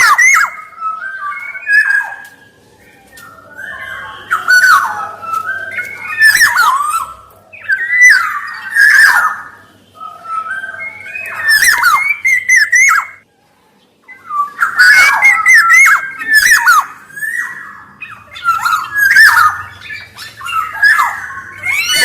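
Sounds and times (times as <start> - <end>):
bird calling fluty and harsh notes: 0.0 - 13.3, 14.0 - 22.0.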